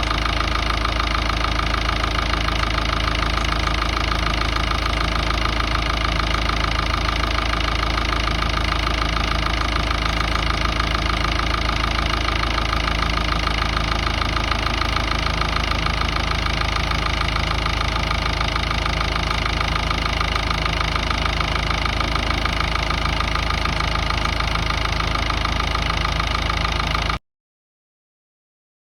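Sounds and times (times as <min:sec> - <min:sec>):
diesel engine idling: 0:00.0 - 0:27.2.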